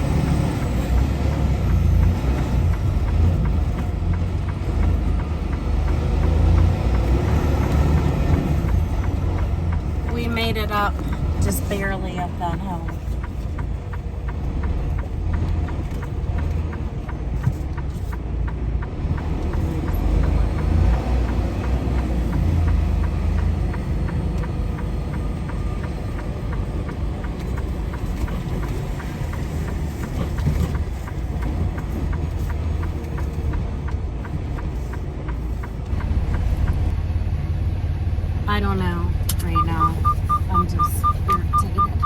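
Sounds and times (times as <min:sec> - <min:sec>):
diesel truck engine rumbling: 0:00.0 - 0:42.0
road noise: 0:00.0 - 0:42.0.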